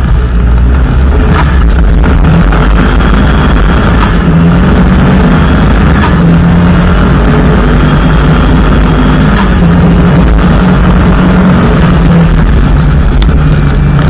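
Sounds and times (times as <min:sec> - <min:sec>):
rally car engine running hard: 0:00.0 - 0:14.0
tyres on gravel: 0:00.0 - 0:14.0.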